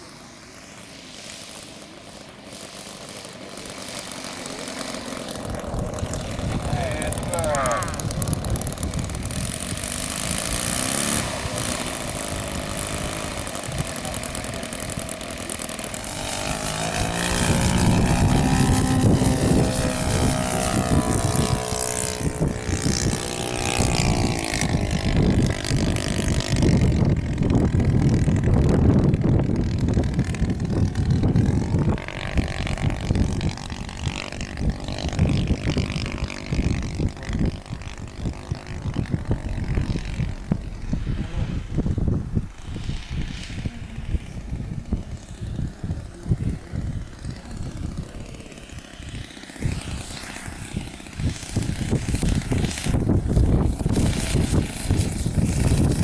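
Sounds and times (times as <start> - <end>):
model airplane engine in flight: 0.0 - 56.0.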